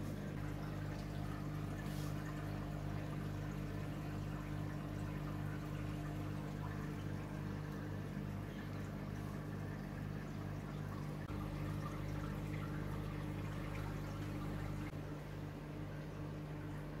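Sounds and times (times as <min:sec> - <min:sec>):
water pouring and bubbling: 0:00.0 - 0:15.0
aquarium pump humming: 0:00.0 - 0:17.0.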